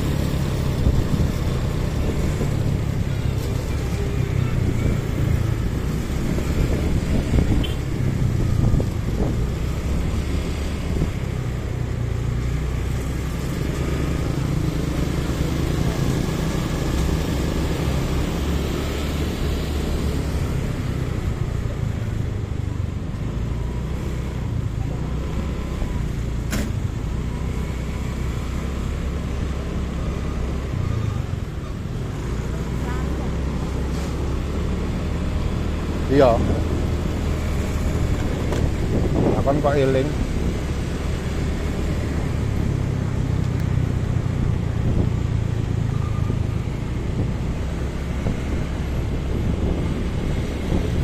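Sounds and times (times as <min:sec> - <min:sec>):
road noise: 0:00.0 - 0:51.0.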